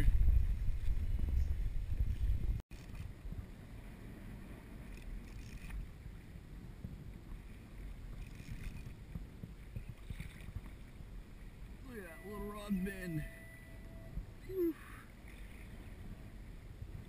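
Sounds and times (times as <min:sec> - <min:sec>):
wind rumble on microphone: 0:00.0 - 0:11.9, 0:12.7 - 0:17.0
water around a kayak: 0:00.0 - 0:17.0.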